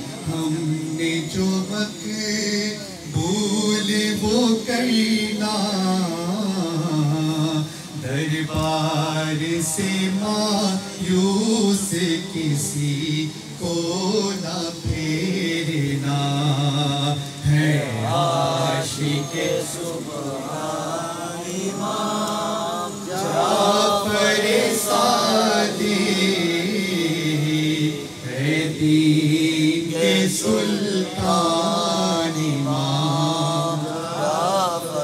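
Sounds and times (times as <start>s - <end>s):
man chanting into a microphone: 0.0s - 35.0s.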